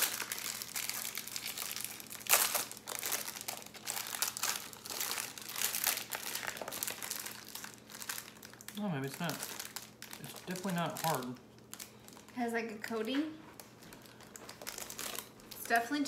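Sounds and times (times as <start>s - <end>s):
snack packaging crinkling: 0.0s - 16.0s.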